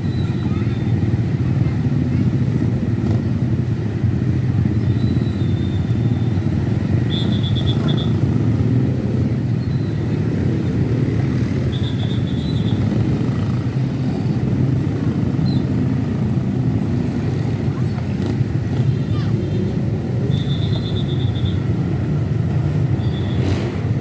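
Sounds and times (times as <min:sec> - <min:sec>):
heavy road traffic rumble: 0:00.0 - 0:24.0.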